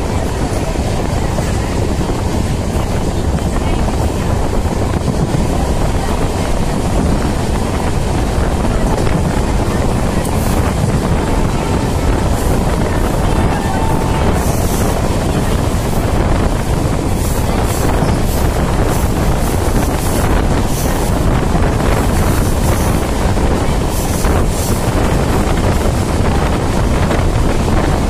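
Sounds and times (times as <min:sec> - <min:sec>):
train wheels rumbling on rails: 0:00.0 - 0:28.0
wind buffeting microphone: 0:00.0 - 0:28.0.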